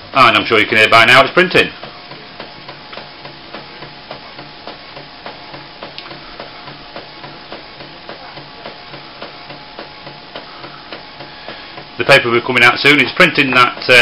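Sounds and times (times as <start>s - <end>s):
printer mechanical whir: 0.0s - 14.0s
printer clicking: 0.2s - 14.0s.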